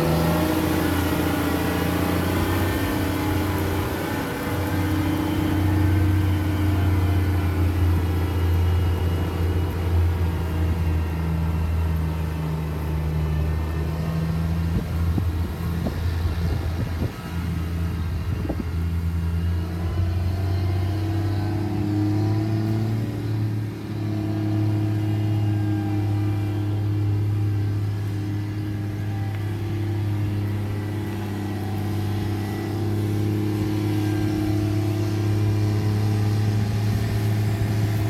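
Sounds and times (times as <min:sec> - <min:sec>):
tractor diesel engine droning: 0:00.0 - 0:38.0.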